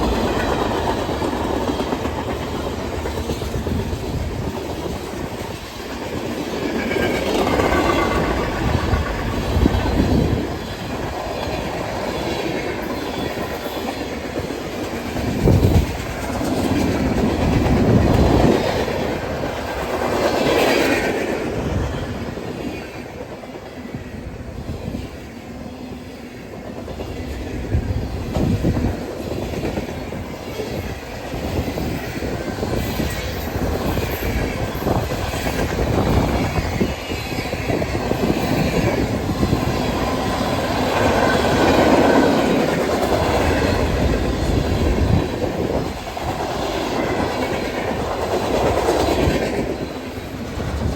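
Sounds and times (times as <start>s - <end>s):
train wheels clacking: 0.0s - 24.0s, 26.5s - 50.9s
railroad cars rumbling: 0.0s - 50.9s.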